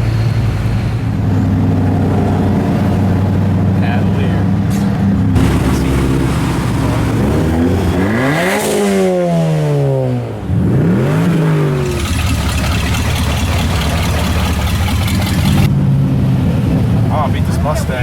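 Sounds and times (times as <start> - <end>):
car engine revving: 0.0 - 18.0
passing traffic: 0.0 - 18.0.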